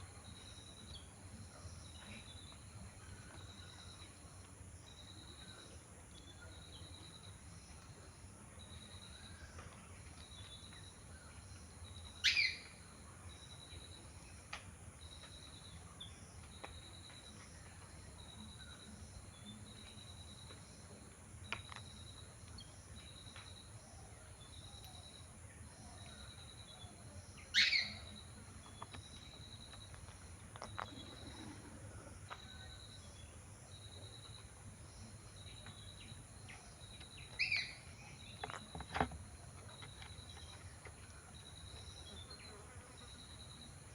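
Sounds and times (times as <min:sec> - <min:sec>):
insects humming: 0:00.0 - 0:43.9.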